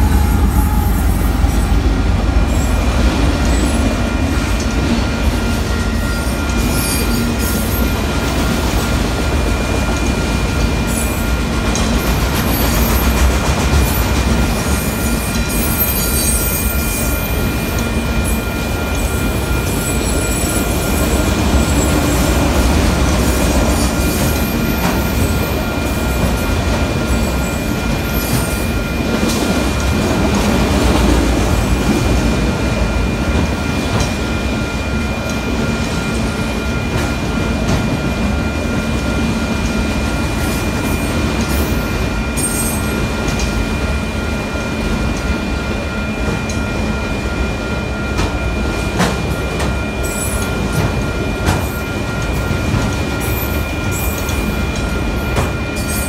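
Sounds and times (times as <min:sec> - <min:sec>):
steady high-pitched tones: 0:00.0 - 0:56.0
train wheels rumbling on rails: 0:00.0 - 0:56.0.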